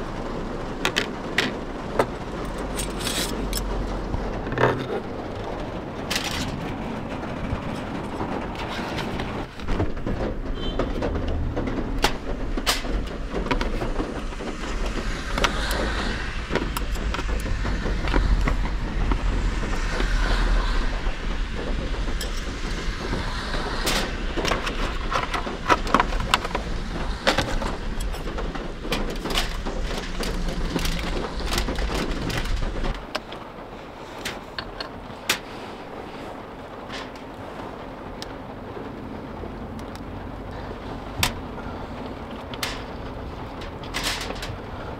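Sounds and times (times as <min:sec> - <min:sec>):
low steady rumble: 0:00.0 - 0:44.9.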